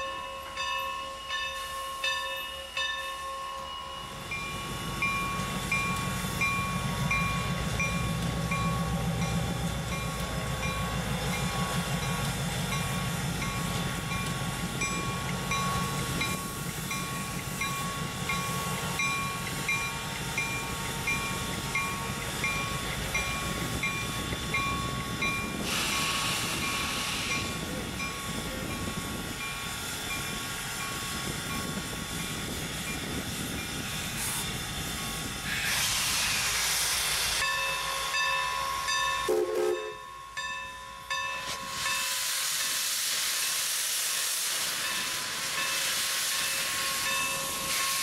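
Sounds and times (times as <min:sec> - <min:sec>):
steam locomotive mechanical ticking: 0:00.1 - 0:48.0
steam hissing: 0:04.0 - 0:39.9, 0:41.2 - 0:48.0.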